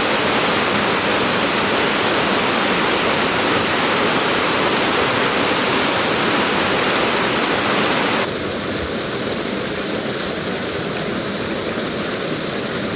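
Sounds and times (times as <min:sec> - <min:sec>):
heavy rain: 0:00.0 - 0:12.9.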